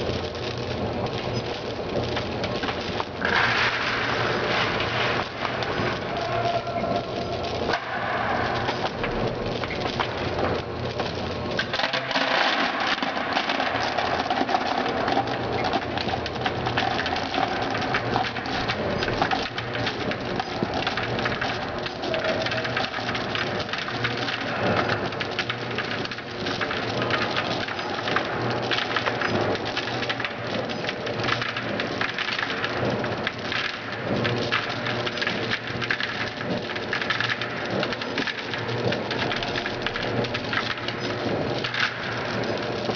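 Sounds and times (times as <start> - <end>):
low machine hum: 0.0 - 42.9
gum rattling in metal hopper: 2.1 - 42.9.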